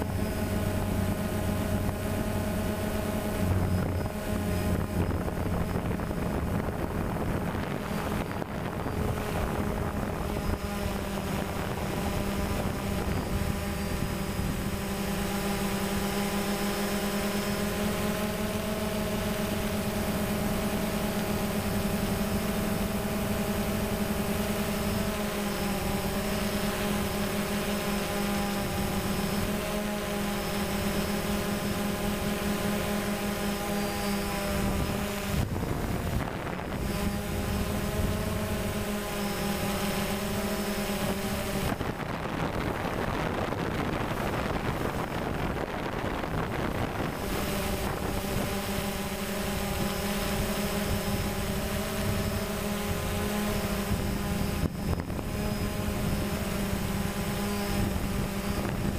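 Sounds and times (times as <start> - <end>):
drone propellers whining: 0.0 - 58.9.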